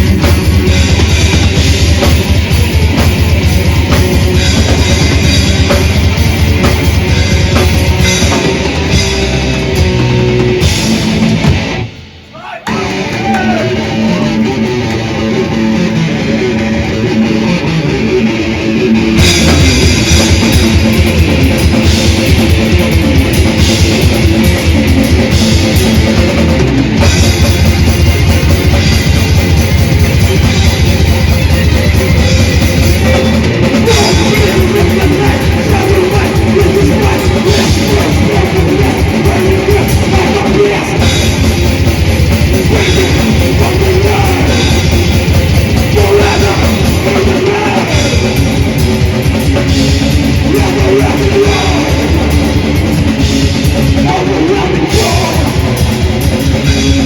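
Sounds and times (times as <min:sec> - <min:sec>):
fast dense drumming: 0:00.0 - 0:57.0
metal band playing live: 0:00.0 - 0:57.0.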